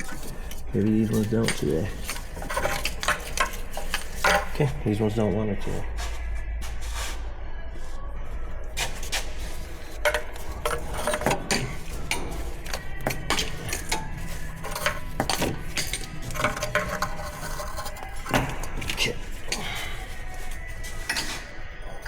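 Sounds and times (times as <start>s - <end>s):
hand tools clinking on metal: 0.0s - 5.1s, 9.4s - 22.0s
steady low hum: 0.0s - 22.0s.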